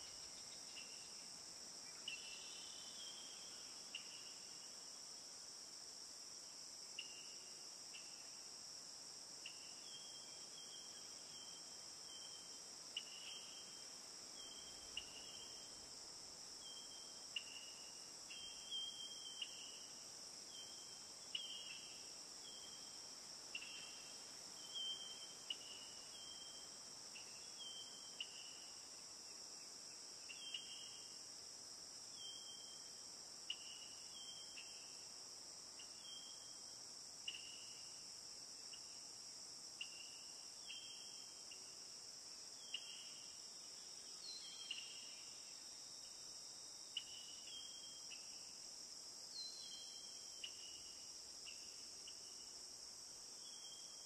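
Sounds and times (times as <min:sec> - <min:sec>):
crickets chirping: 0:00.0 - 0:54.0
steady high hiss: 0:00.0 - 0:54.0.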